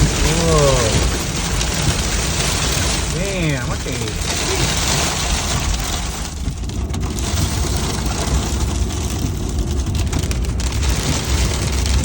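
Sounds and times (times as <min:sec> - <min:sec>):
gusting wind rumble: 0:00.0 - 0:12.0
rain hitting a car: 0:00.0 - 0:12.0.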